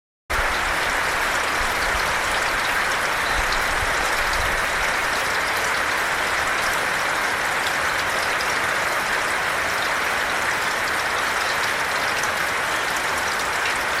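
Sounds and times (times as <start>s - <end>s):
heavy rain falling: 0.3s - 14.0s.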